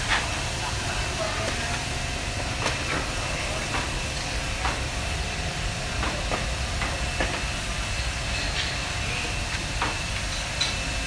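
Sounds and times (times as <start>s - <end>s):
electric fan whirring: 0.0s - 11.0s.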